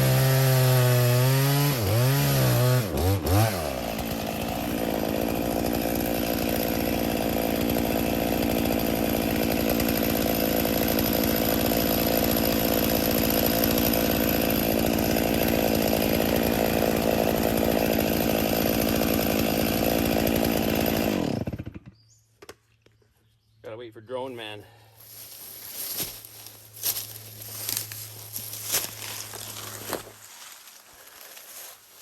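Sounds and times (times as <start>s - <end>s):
chainsaw cutting into tree: 0.0s - 22.0s, 25.8s - 32.0s.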